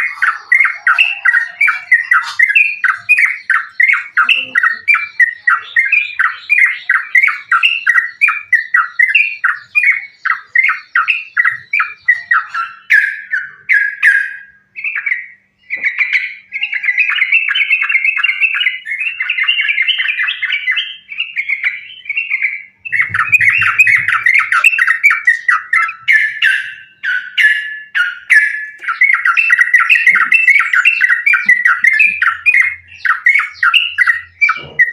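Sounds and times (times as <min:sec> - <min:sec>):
bird singing rapid bubbly chatter: 0:00.0 - 0:34.9.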